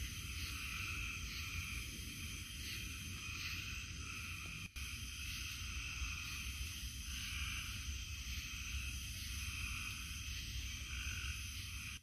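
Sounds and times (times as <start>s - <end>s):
frogs chorus: 0.0s - 12.0s.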